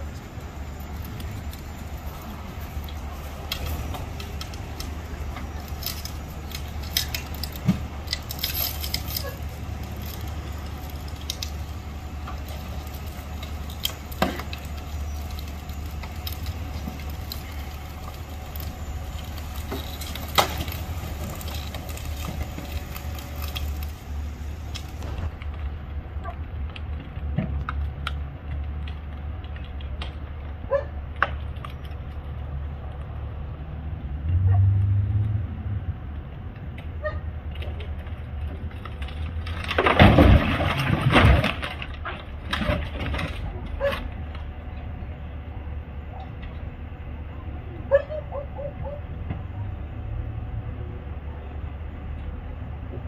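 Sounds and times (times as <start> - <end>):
truck engine humming: 0.0 - 53.0.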